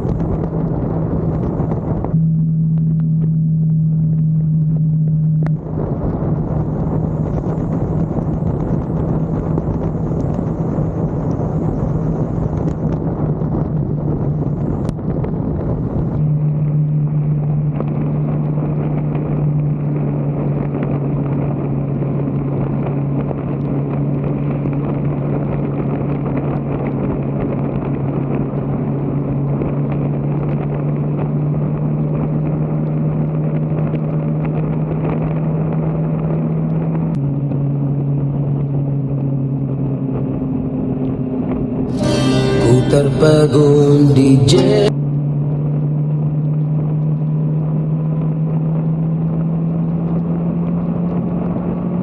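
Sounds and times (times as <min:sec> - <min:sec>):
road and wind noise: 0:00.0 - 0:52.0
vehicle engine cruising: 0:00.0 - 0:52.0.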